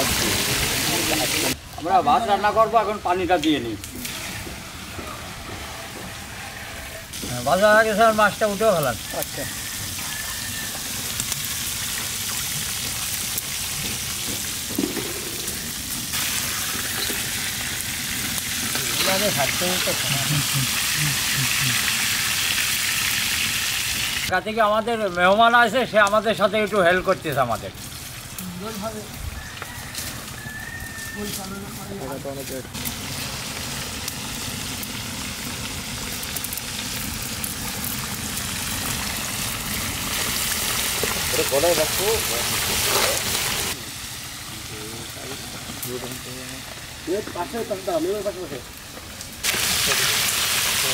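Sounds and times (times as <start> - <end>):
fish deep-frying in hot oil: 0.0 - 5.5, 6.1 - 50.9.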